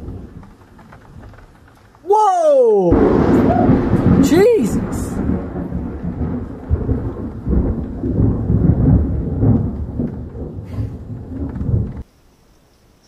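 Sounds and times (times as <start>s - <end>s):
thunder rumbling: 0.0s - 12.1s.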